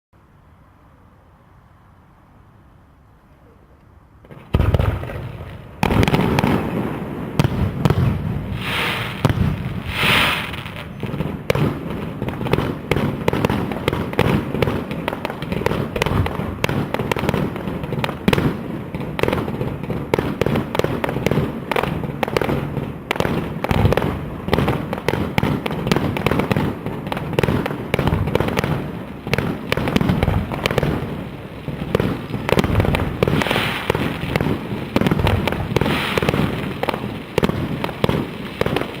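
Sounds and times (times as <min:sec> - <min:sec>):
fireworks bangs and bursts: 0:04.3 - 0:39.0
fireworks hissing: 0:05.8 - 0:39.0.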